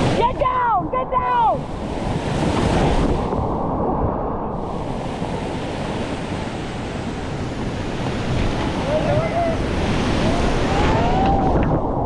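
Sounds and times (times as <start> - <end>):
rushing white water: 0.0 - 3.9, 4.5 - 12.0
wind buffeting microphone: 0.0 - 12.0.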